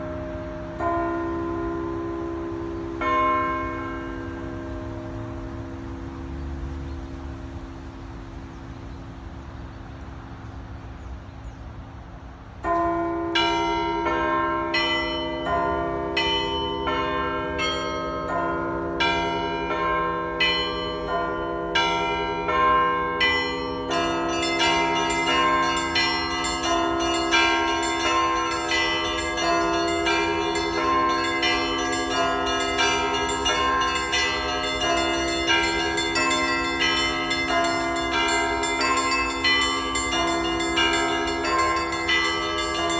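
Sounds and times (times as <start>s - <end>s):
church bells ringing: 0.0s - 8.3s, 12.6s - 42.9s.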